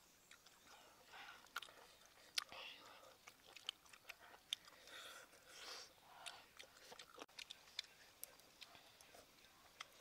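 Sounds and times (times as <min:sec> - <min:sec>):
faint chewing: 0:00.2 - 0:10.0.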